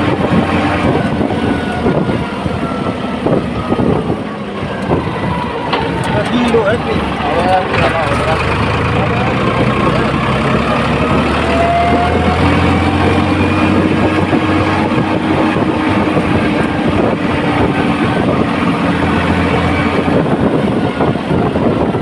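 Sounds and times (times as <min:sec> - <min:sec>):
tractor diesel engine drone: 0:00.0 - 0:22.0.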